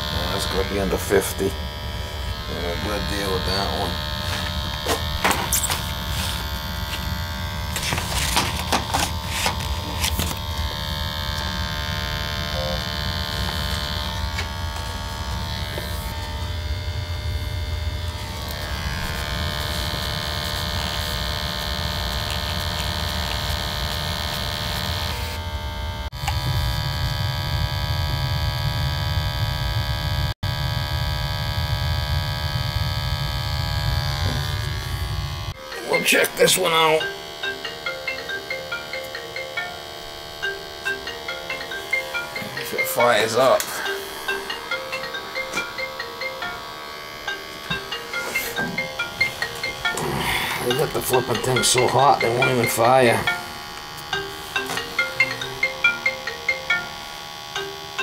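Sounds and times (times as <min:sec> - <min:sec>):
sampling pump buzzing: 0:00.0 - 0:58.0.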